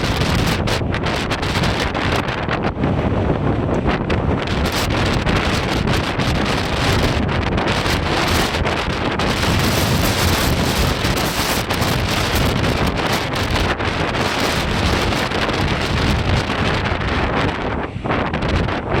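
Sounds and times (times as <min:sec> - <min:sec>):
rough sea surf: 0:00.0 - 0:19.0
storm wind on microphone: 0:00.0 - 0:19.0.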